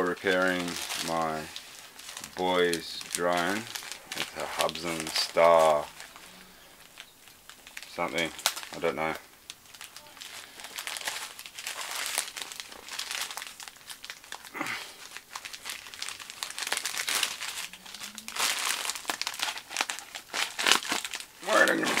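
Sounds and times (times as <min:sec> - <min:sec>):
plastic mailer bag crinkling: 0:00.0 - 0:22.0.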